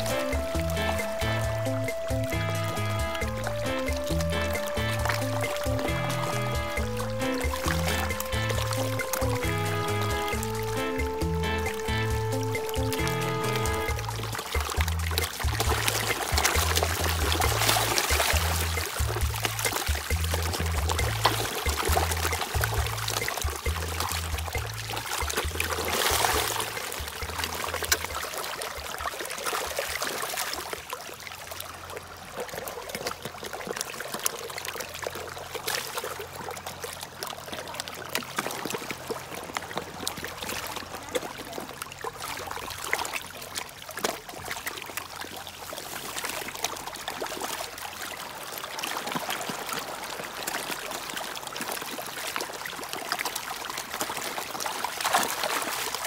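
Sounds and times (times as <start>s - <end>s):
fish splashing at water surface: 0.0s - 56.0s.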